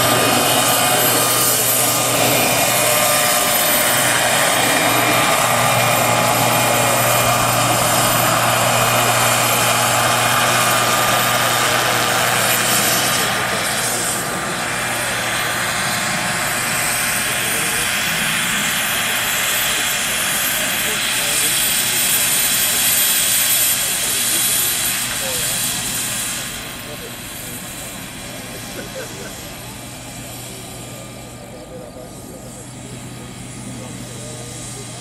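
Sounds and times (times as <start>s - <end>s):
helicopter rotor noise: 0.0s - 35.0s
model helicopter turbine whine: 0.0s - 35.0s.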